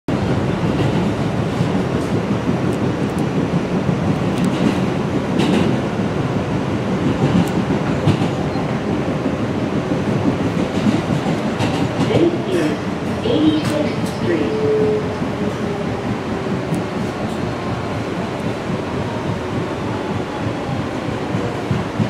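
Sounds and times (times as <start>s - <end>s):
subway train rumbling: 0.1s - 22.0s.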